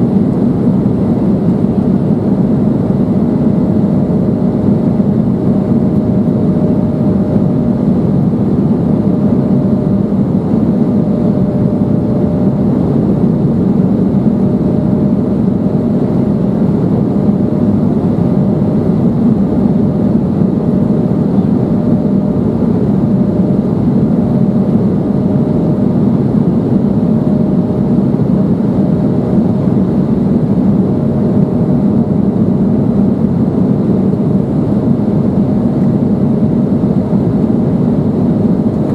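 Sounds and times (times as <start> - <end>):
airliner cabin engine rush: 0.0 - 38.9.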